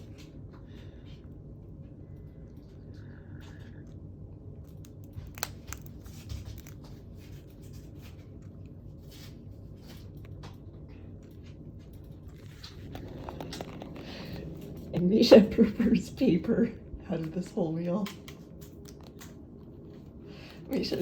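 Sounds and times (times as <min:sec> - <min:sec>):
cockatoo chewing with beak: 0:00.0 - 0:15.1, 0:18.0 - 0:21.0.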